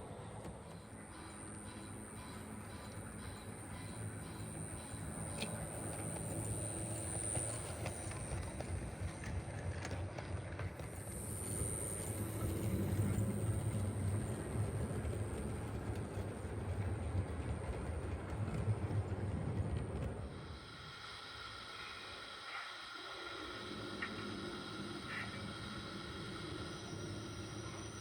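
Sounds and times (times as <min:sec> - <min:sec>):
model train motor hum: 0:00.0 - 0:28.0
wheels clicking on rails: 0:00.0 - 0:28.0.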